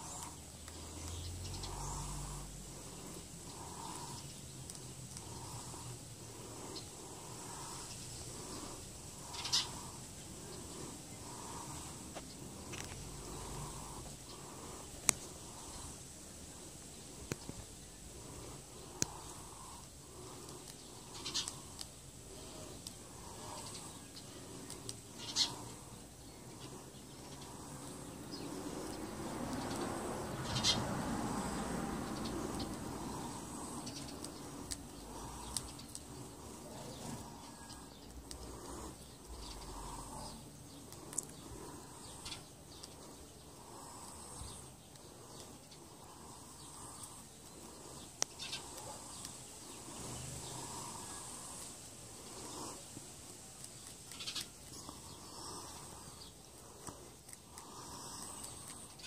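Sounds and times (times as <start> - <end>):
outdoor background noise: 0.0 - 59.0
faint animal calls: 5.1 - 16.0, 18.1 - 52.9, 54.1 - 56.2.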